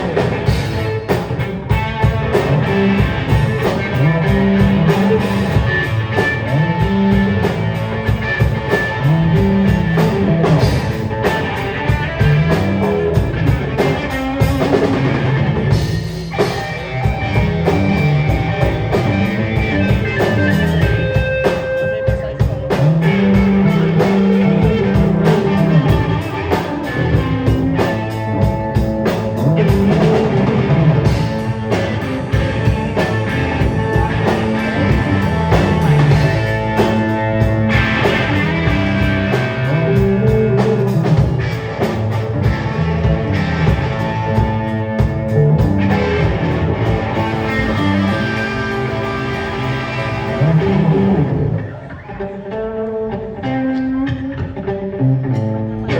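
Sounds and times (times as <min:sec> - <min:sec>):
moving bass line: 0:00.0 - 0:52.0
electric guitar: 0:00.0 - 0:55.9
rock band playing live: 0:00.0 - 0:55.9.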